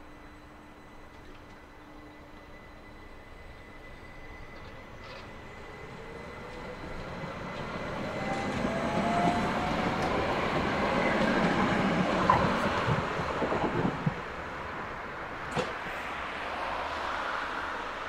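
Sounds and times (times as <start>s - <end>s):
electric tram passing: 0.0s - 18.0s.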